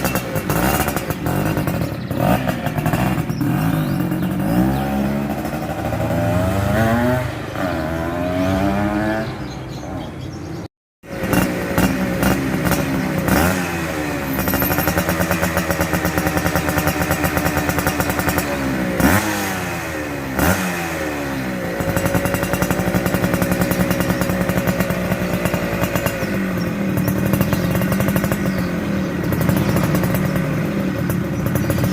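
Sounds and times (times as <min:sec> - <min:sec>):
two-stroke motorcycle engine revving: 0:00.0 - 0:31.9.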